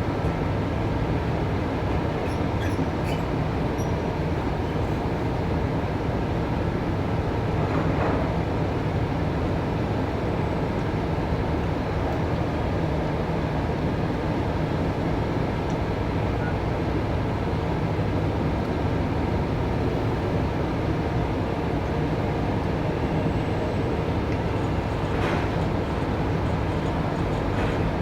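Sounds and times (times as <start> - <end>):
low mechanical rumble of machinery: 0.0 - 28.0.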